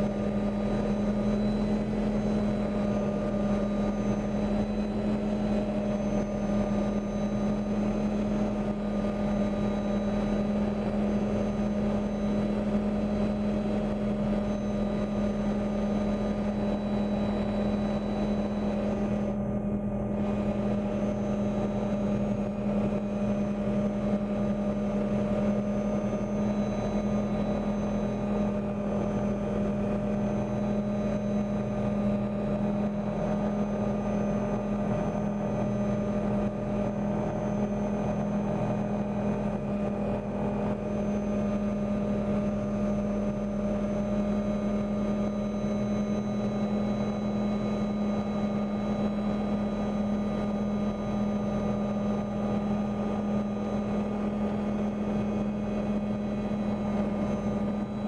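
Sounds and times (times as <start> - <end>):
helicopter engine and rotors drone: 0.0 - 58.0.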